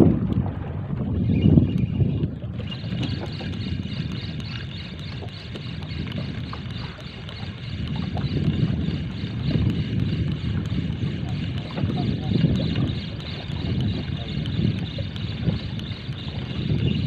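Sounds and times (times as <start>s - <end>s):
choppy water around boat: 0.0s - 17.0s
wind rumble: 0.0s - 17.0s
faint ticks: 2.7s - 17.0s.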